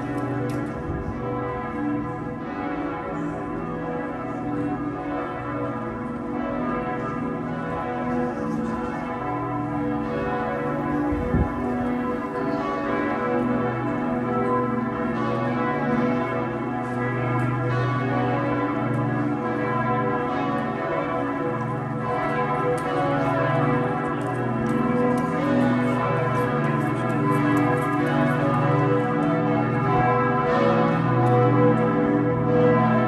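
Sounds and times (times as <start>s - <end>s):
church bells pealing: 0.0s - 33.0s.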